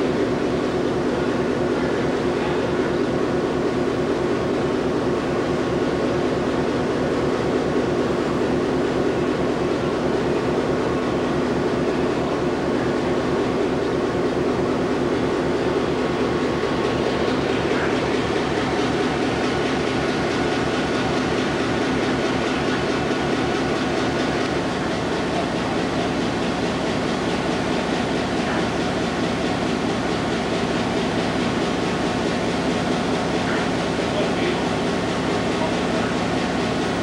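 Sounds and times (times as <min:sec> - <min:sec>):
diesel locomotive rumble: 0:00.0 - 0:37.0.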